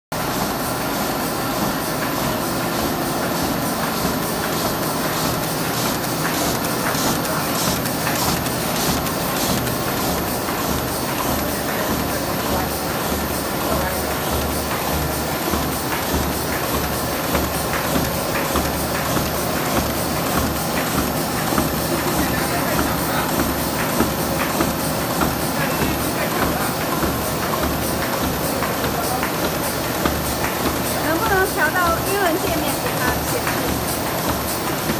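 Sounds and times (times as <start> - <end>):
machine running with regular clatter: 0.2 - 34.9.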